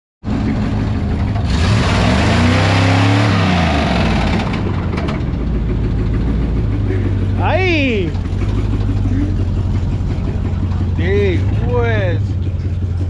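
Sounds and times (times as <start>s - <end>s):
vehicle engine revving: 0.3s - 13.0s.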